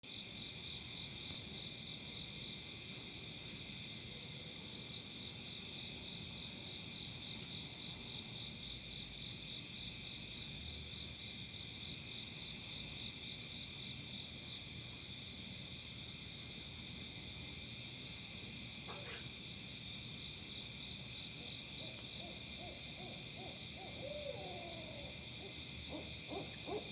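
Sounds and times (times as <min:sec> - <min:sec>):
crickets trilling: 0:00.1 - 0:26.9.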